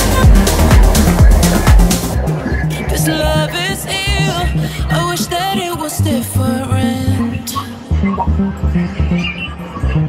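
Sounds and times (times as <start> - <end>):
repeating bass beat: 0.0 - 10.0
wavering melody: 0.0 - 10.0.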